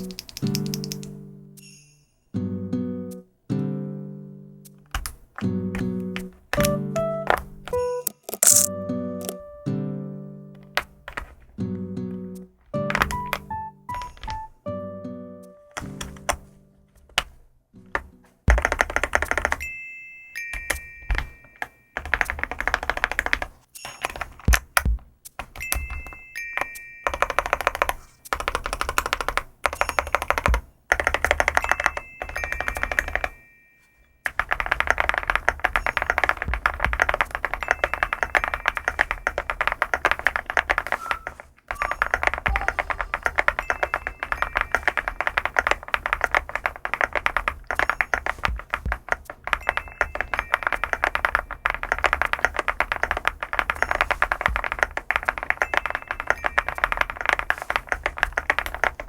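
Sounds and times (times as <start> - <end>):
mechanical keyboard typing: 0.0 - 1.2, 4.9 - 9.4, 10.6 - 11.5, 12.7 - 14.6, 18.5 - 19.7, 20.5 - 33.4, 34.3 - 59.0.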